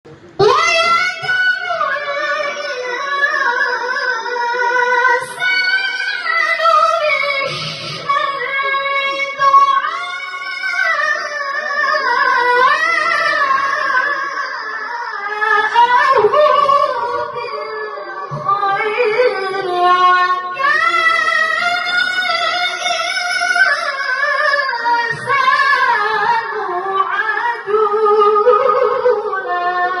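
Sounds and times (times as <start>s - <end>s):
woman chanting: 0.4s - 30.0s.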